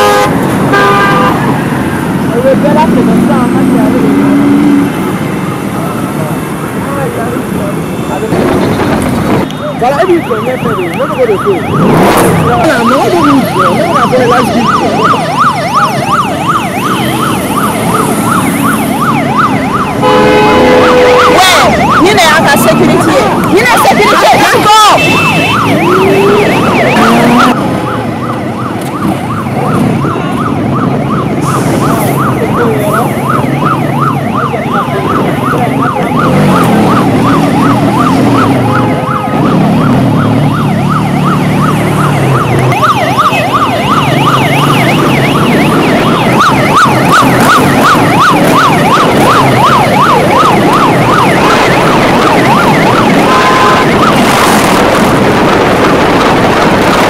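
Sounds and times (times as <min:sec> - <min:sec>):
car and motorcycle engines: 0:00.0 - 0:57.0
police siren yelping: 0:00.0 - 0:57.0.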